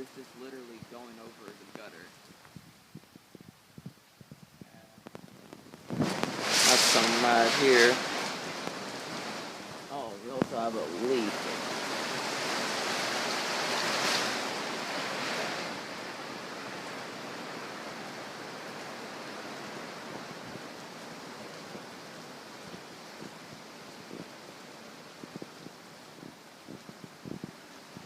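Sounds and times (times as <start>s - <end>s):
heavy rain with splashing water: 0.0s - 28.0s.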